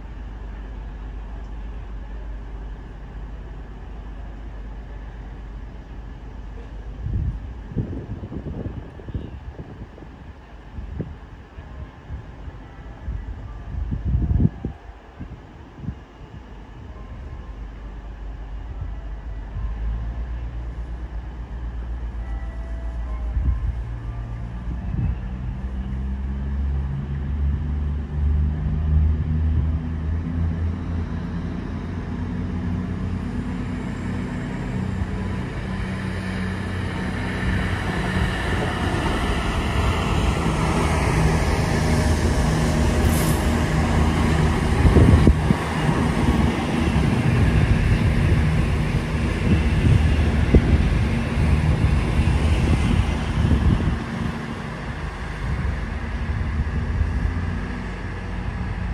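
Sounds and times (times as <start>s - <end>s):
diesel train engines humming: 0.0s - 58.9s.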